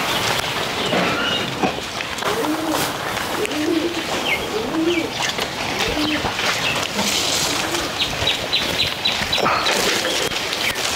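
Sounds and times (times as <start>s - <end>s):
birds twittering: 0.0s - 2.1s, 2.9s - 7.0s, 7.6s - 10.9s
small birds chirping: 0.0s - 10.9s
pigeons cooing: 0.6s - 10.9s.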